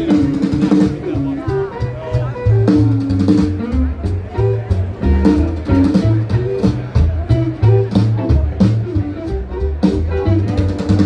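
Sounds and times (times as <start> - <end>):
bass line: 0.0 - 11.0
rock and roll band playing: 0.0 - 11.0.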